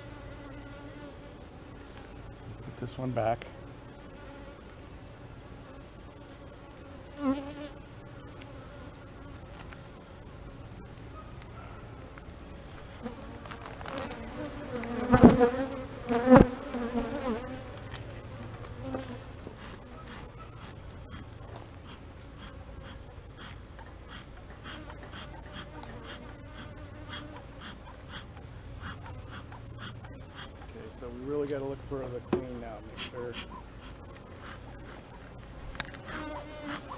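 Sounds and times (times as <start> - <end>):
honey bees buzzing: 0.0 - 36.9.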